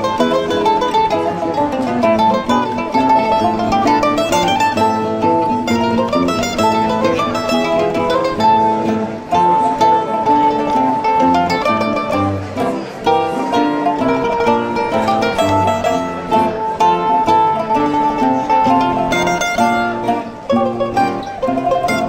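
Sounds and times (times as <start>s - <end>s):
plucked string music: 0.0s - 22.0s.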